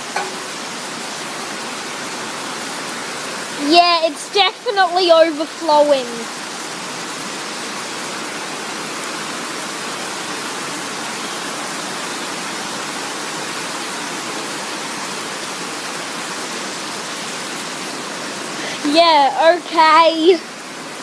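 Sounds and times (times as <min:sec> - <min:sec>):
heavy rain pouring: 0:00.0 - 0:21.0
water overflowing and splashing: 0:00.0 - 0:21.0.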